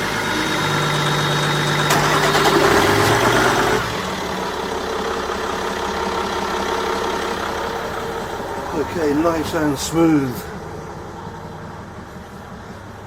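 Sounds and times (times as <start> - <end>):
marine diesel engine idling: 0.0 - 13.0.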